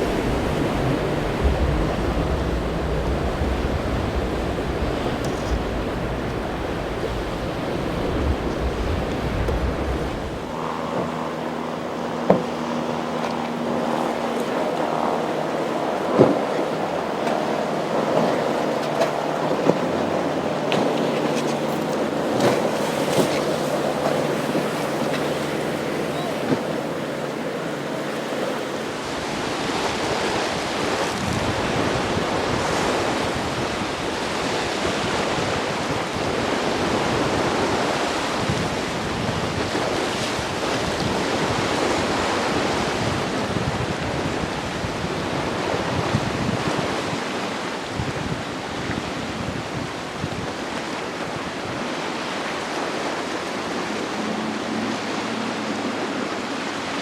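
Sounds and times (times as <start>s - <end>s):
waves breaking: 0.0s - 57.0s
wind buffeting microphone: 0.0s - 57.0s.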